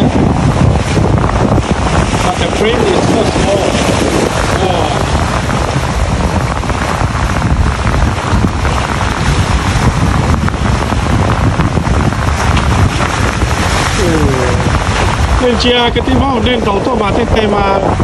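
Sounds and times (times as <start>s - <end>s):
waves splashing against rocks: 0.0s - 18.0s
wind buffeting microphone: 0.0s - 18.0s.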